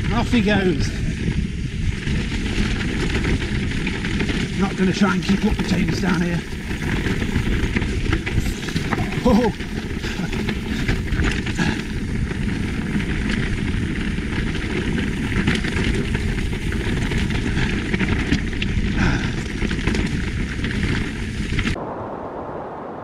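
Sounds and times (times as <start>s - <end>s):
bike knocking and rattling: 0.0s - 21.8s
bike tyre rumble: 0.0s - 23.0s
wind on microphone: 0.0s - 23.0s.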